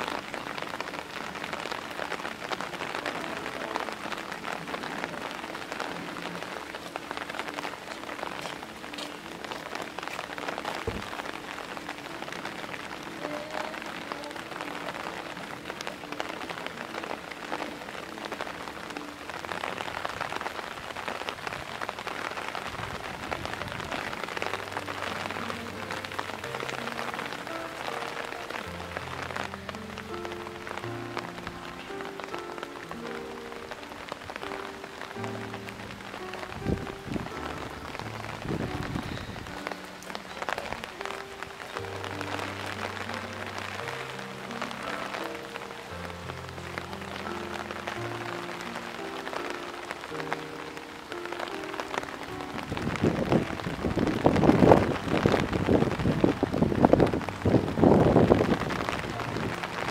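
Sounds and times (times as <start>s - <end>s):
faint background music: 0.0s - 59.9s
heavy rain hissing: 0.0s - 59.9s.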